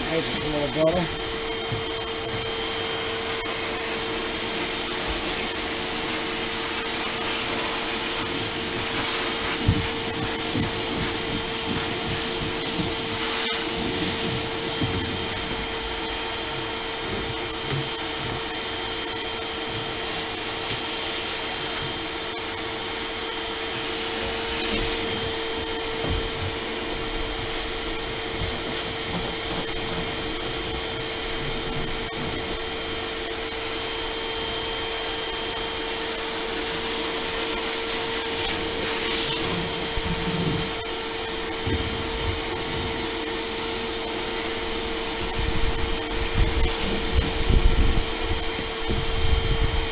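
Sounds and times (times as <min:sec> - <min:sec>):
shop vacuum whining: 0:00.0 - 0:49.9.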